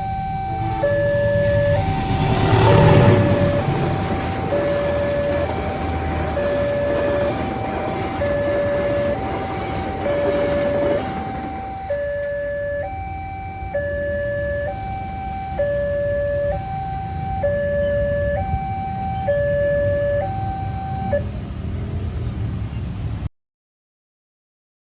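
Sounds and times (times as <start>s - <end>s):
level crossing two-tone alarm: 0.0s - 21.2s
low rushing noise: 0.0s - 23.3s.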